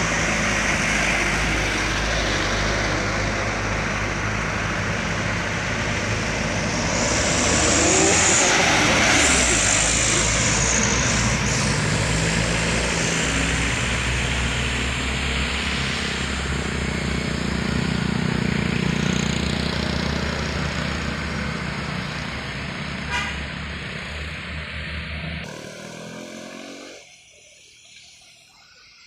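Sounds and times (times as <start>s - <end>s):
heavy vehicle engine passing: 0.0s - 27.0s.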